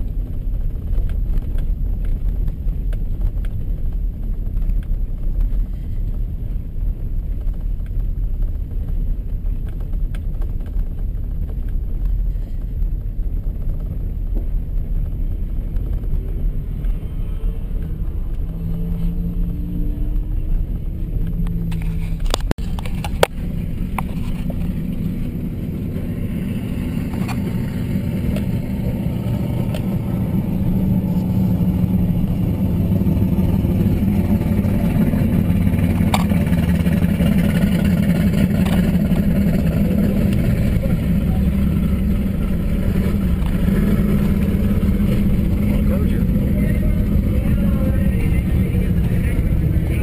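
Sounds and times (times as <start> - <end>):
engine and road noise in cab: 0.0 - 50.0.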